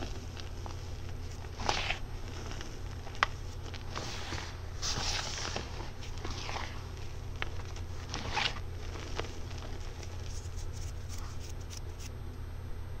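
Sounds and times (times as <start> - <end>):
hands crunching powder: 0.0 - 12.1
small crackles: 0.0 - 12.1.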